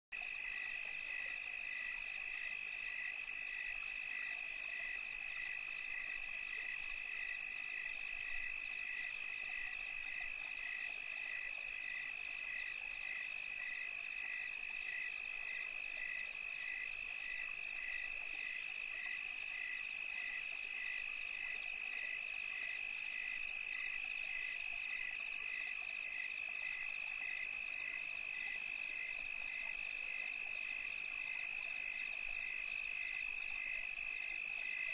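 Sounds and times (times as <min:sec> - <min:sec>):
insects trilling: 0:00.2 - 0:34.9.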